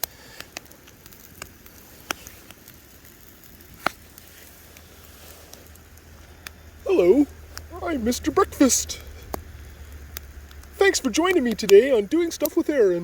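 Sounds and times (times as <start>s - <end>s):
burning wood popping: 0.0s - 13.0s
campfire crackling: 0.0s - 13.0s.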